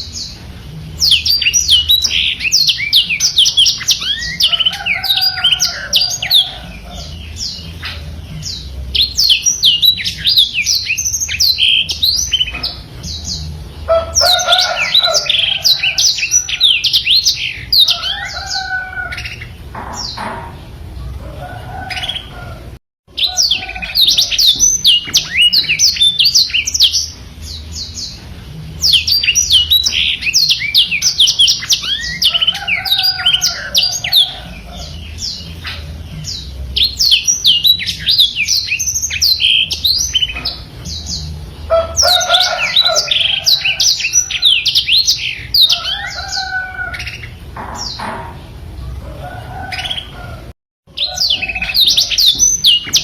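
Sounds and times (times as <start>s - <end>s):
canary singing rapid twittering song: 0.0s - 53.0s.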